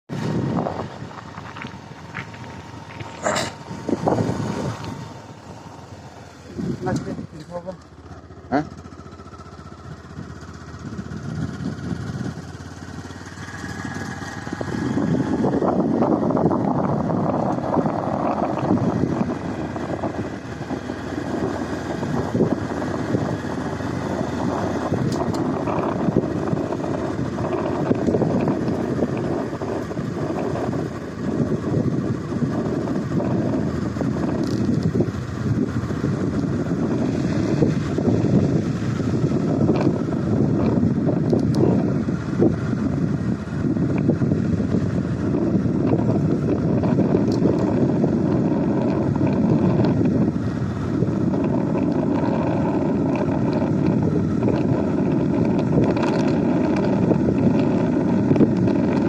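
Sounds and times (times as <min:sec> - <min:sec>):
vehicle engine and road rumble: 0:00.0 - 0:59.0
gusty wind noise: 0:00.1 - 0:08.4, 0:09.2 - 0:59.0.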